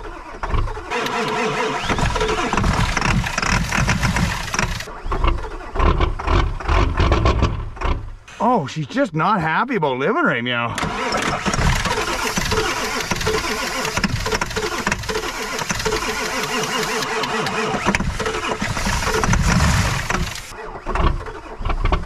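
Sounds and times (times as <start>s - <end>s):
diesel engine cranking: 0.0s - 8.4s, 10.6s - 22.0s.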